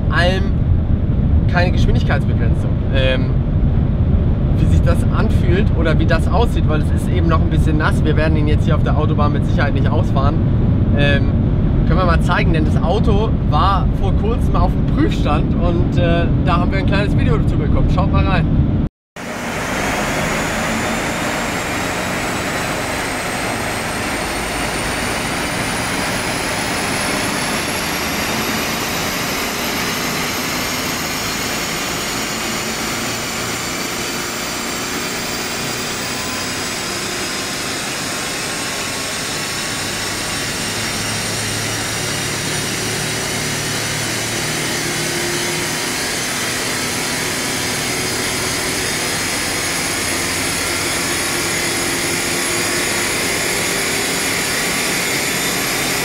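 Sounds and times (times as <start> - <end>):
car engine at full throttle: 0.0 - 56.0
rising whine: 0.0 - 56.0.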